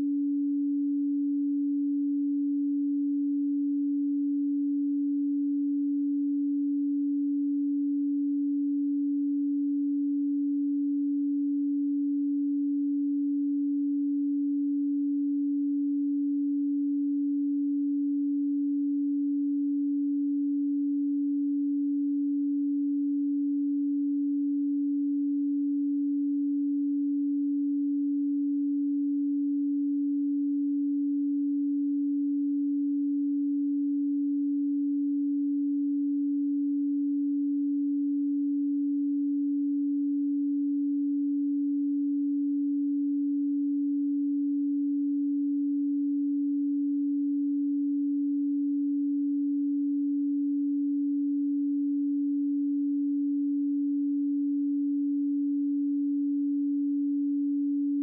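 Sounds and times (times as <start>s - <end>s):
pure sine tone: 0.0s - 58.0s.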